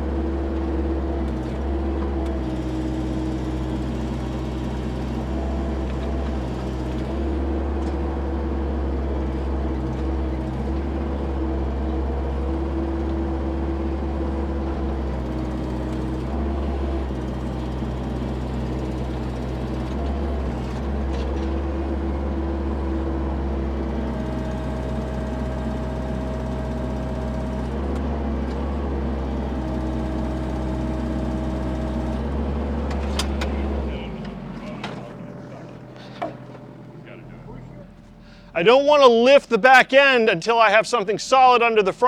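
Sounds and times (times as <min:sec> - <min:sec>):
heavy equipment diesel engine running: 0:00.0 - 0:42.0.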